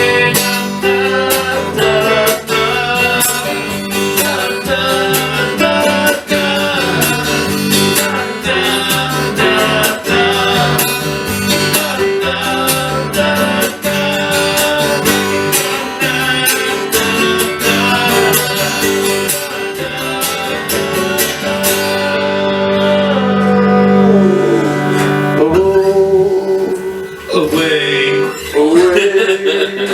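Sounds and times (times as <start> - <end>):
acoustic guitar strumming: 0.0 - 29.9.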